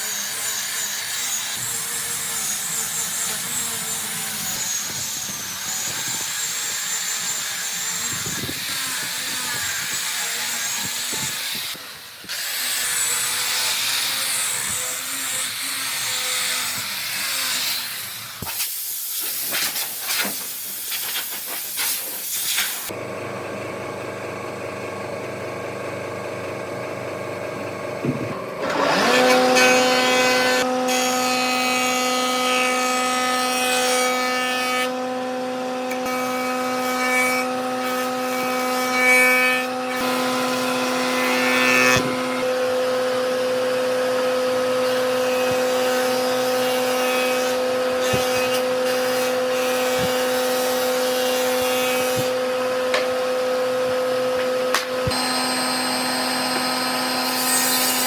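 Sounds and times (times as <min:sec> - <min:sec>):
power tool motor whining: 0:00.0 - 0:23.1, 0:28.0 - 0:33.5, 0:34.2 - 0:58.0
power tool cutting wood: 0:00.0 - 0:23.7, 0:28.0 - 0:58.0.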